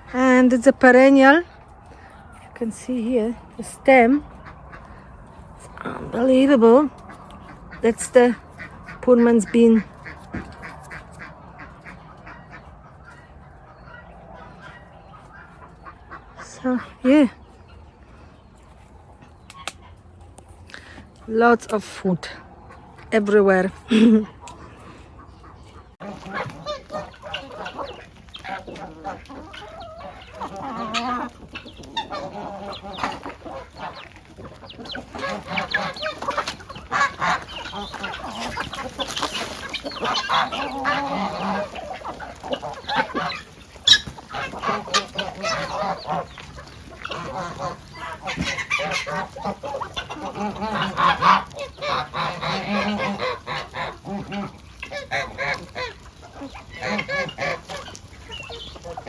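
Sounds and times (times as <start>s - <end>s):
geese honking: 0.0s - 59.0s
hens clucking: 0.0s - 59.0s.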